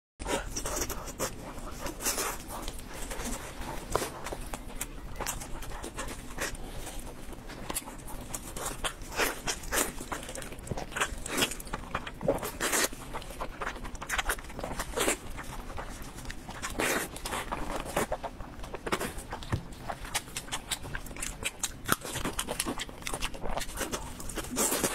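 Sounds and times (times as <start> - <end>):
meat torn and chewed: 0.2 - 24.9.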